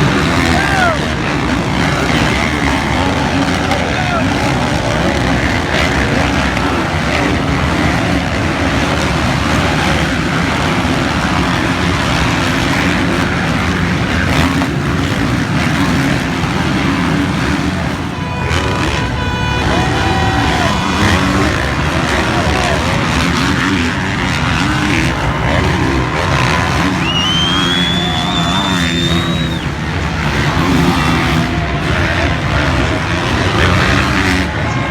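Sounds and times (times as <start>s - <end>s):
motocross bike engines running: 0.0s - 34.9s.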